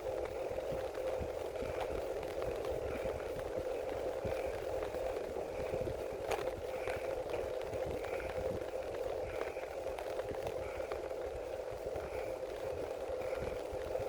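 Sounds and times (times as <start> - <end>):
bicycle tyre hum and road rumble: 0.0 - 14.0.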